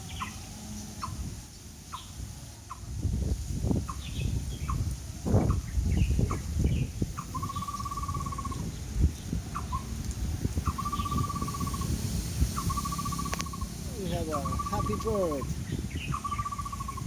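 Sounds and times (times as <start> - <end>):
bird singing: 0.0 - 2.8, 3.8 - 10.0, 10.6 - 17.0
wind rumble on microphone: 0.0 - 17.0.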